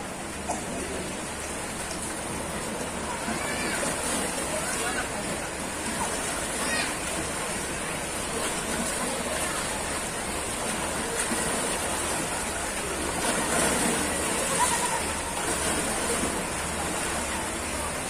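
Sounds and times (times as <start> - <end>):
faint voices: 0.0 - 18.0
lake water lapping and splashing: 0.0 - 18.0.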